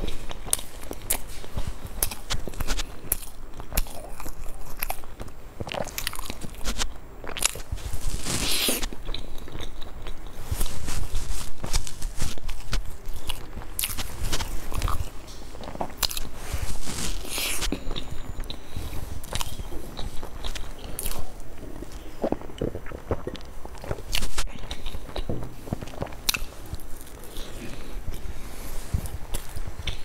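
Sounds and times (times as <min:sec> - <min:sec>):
person chewing crunchy pastry: 0:00.0 - 0:30.0.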